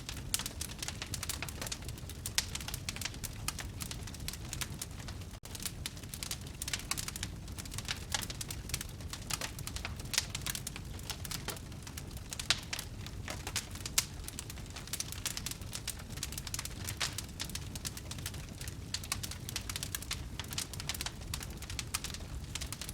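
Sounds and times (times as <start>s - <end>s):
fire crackling and popping: 0.0s - 22.9s.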